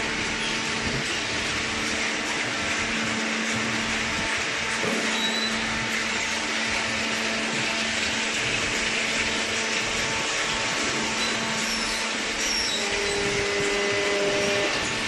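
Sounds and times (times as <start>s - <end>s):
electric motor and pump whirring: 0.0s - 15.0s.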